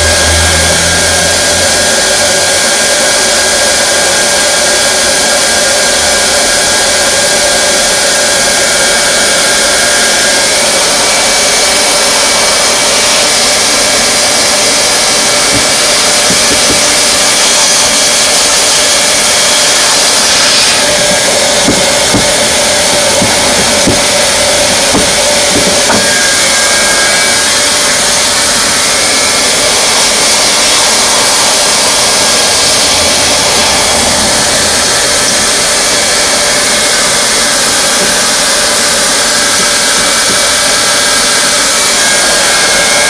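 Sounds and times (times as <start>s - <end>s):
hot-air welding gun blowing: 0.0s - 43.0s.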